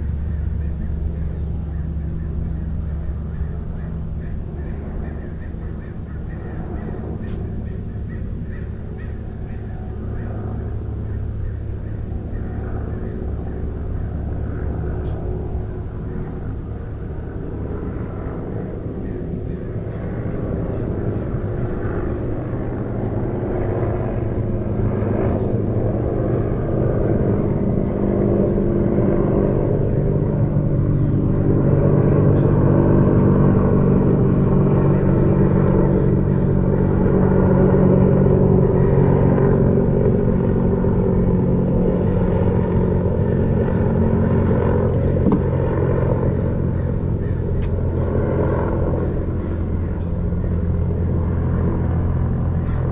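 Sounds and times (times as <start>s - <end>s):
engine humming: 0.0s - 52.9s.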